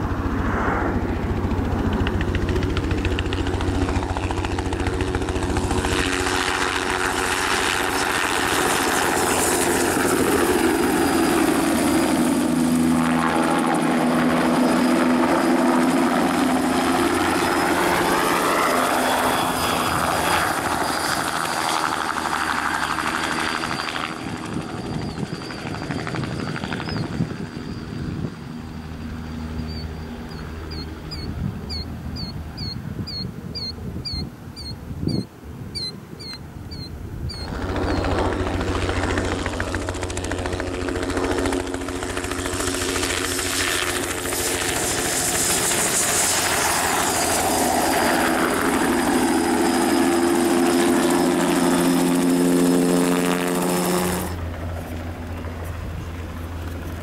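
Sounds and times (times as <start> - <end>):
helicopter flying past: 0.0 - 57.0.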